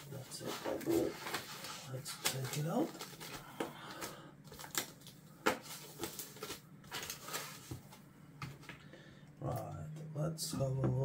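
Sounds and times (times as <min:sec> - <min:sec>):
soft packaging rustling: 0:00.1 - 0:09.0.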